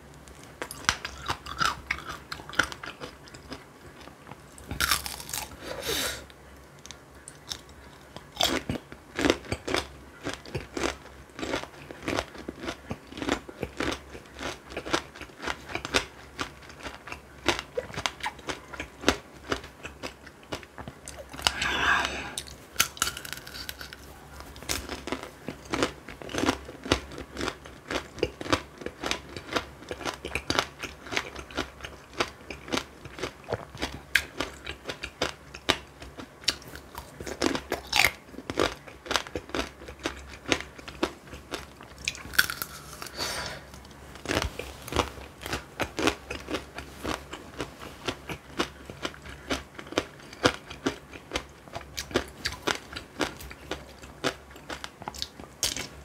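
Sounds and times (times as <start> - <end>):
candied fruit crunching when bitten: 4.6 - 5.7, 6.8 - 56.0.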